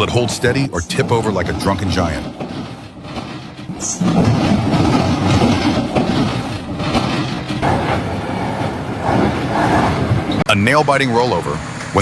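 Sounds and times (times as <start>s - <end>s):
dump truck rattling: 0.0s - 10.5s.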